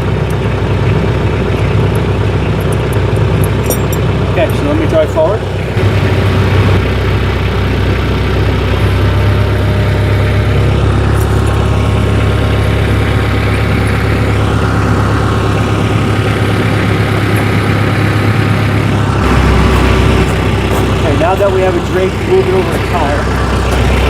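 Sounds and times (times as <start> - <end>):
tractor engine running at low speed: 0.0 - 24.0.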